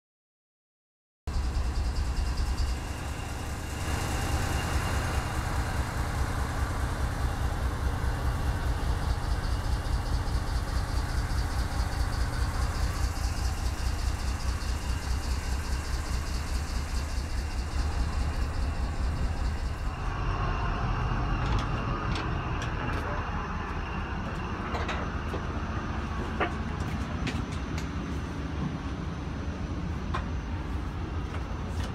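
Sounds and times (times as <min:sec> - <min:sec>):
diesel locomotive idling: 0:01.3 - 0:31.9
faint high whine: 0:01.3 - 0:31.9.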